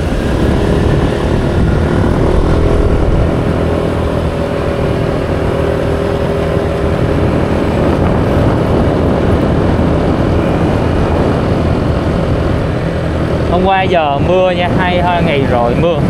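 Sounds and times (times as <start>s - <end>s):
motorbike engine running: 0.0s - 15.8s
wind and road noise: 0.0s - 16.0s.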